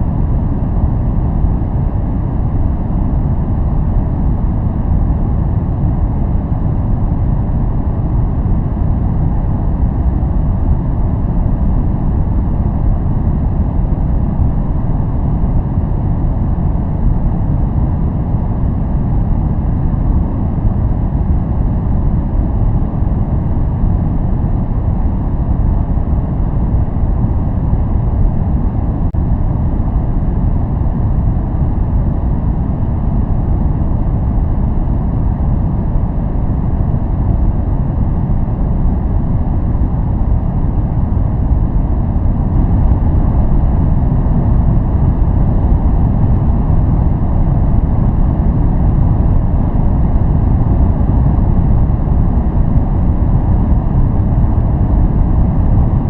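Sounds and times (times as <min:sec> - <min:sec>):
deep even noise rumble: 0:00.0 - 0:56.0.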